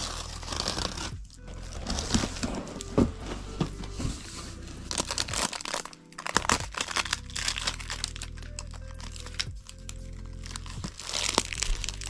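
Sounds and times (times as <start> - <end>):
bubble wrap crinkling and rustling: 0.0 - 12.0.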